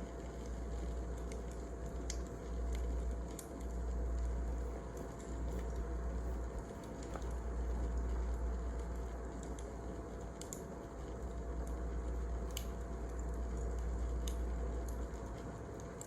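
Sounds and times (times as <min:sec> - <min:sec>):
low steady rumble: 0:00.0 - 0:16.0
wood fire crackling: 0:00.0 - 0:16.0.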